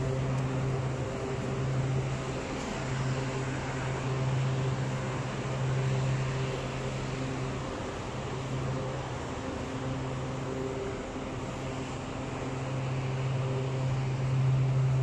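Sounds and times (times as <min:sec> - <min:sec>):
low machine hum: 0:00.0 - 0:15.0
traffic noise: 0:00.0 - 0:15.0.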